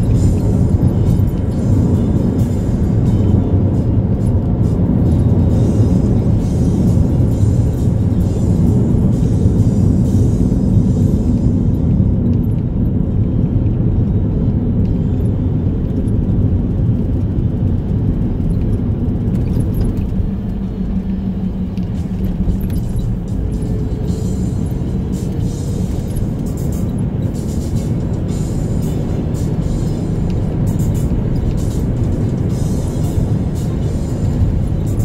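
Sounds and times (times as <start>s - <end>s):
car cabin road rumble: 0.0s - 35.0s
music playing: 0.0s - 35.0s.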